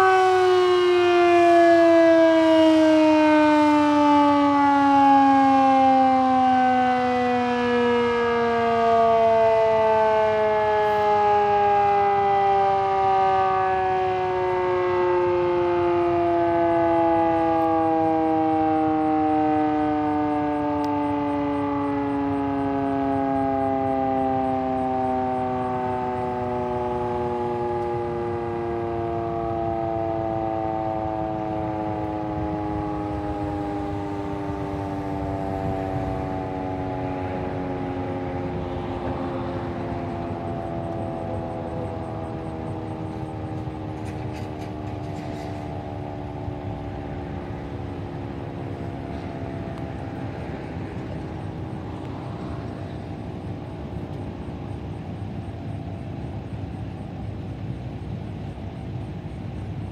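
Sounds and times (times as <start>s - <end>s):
warning siren winding down: 0.0s - 59.9s.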